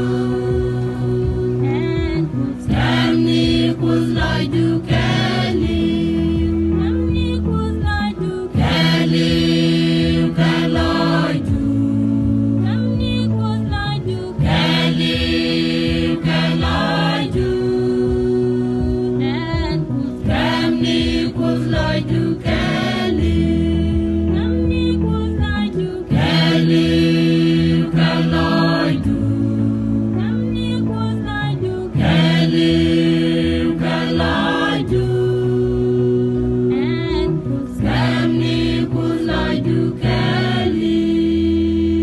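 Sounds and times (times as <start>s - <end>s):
mixed choir singing in harmony: 0.0s - 42.0s.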